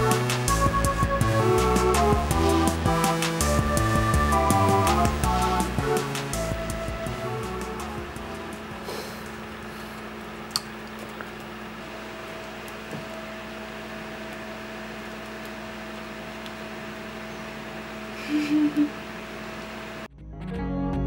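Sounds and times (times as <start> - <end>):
electrical hum: 0.0 - 20.1.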